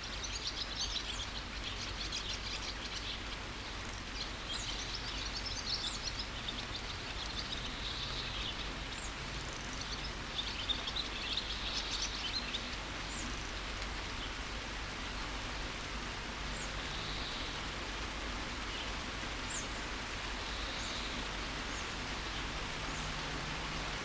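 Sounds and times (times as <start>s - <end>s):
birds chirping: 0.0s - 24.0s
steady rain: 0.0s - 24.0s.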